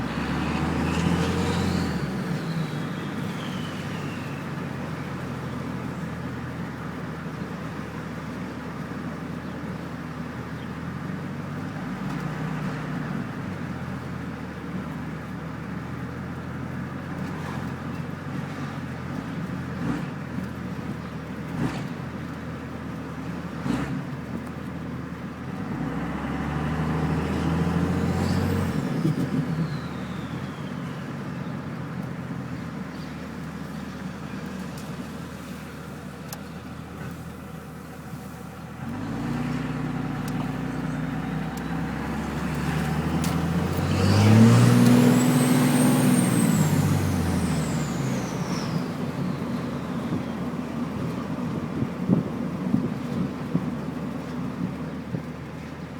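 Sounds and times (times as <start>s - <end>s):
diesel engine idling and revving: 0.0s - 55.9s.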